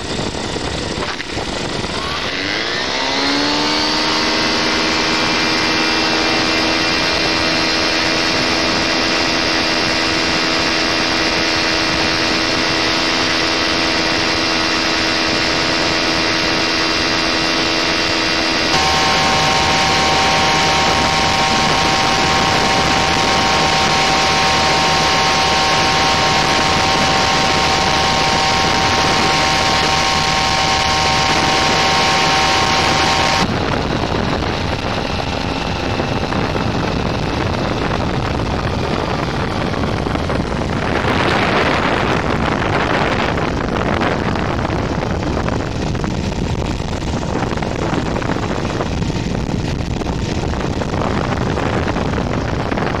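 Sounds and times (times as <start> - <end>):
paramotor engine whining: 0.0 - 53.0
wind rushing over microphone: 0.0 - 53.0.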